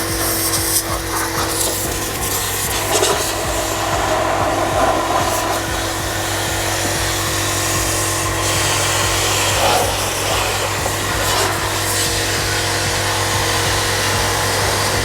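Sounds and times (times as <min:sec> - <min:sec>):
pressure washer motor humming: 0:00.0 - 0:15.0
water spray hissing: 0:00.0 - 0:15.0.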